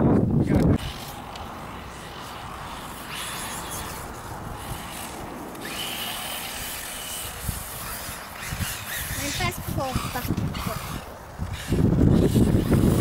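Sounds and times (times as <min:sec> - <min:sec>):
wind buffeting microphone: 0:00.0 - 0:13.0
electric motor whine: 0:00.5 - 0:13.0.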